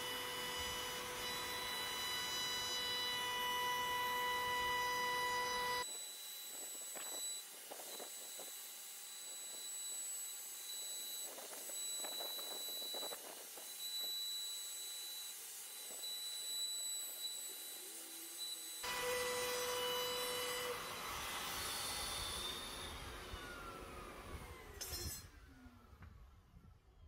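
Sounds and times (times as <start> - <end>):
router whining: 0.0 - 26.7.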